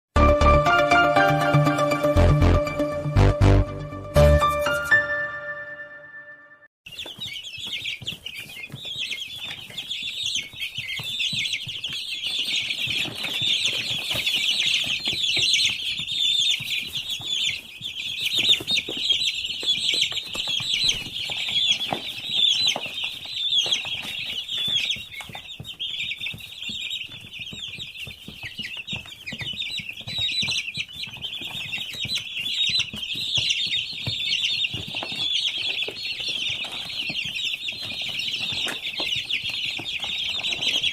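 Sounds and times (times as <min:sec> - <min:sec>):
chicks peeping: 0:00.3 - 0:40.9.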